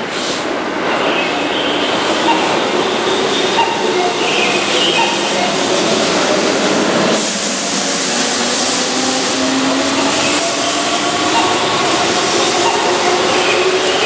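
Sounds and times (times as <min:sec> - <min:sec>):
wheels rushing on rail: 0:00.0 - 0:14.0
electric train motors humming: 0:01.7 - 0:14.0.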